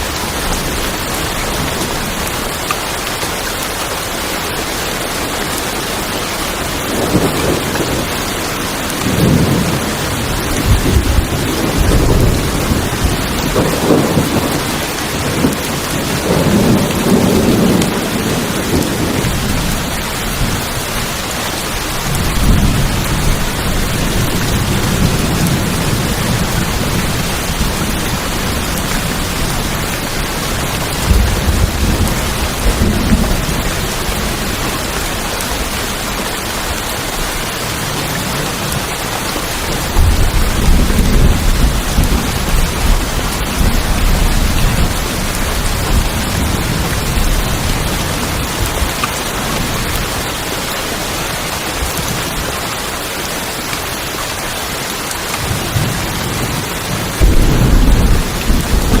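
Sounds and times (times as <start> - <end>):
heavy rain on a tin roof: 0.0 - 59.0
thunder rumbling: 6.6 - 52.5, 55.4 - 59.0.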